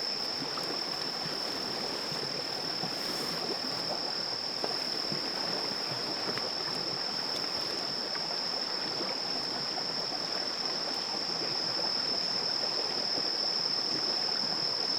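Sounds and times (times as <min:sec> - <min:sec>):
stream burbling: 0:00.0 - 0:12.7
insects trilling: 0:00.0 - 0:14.9.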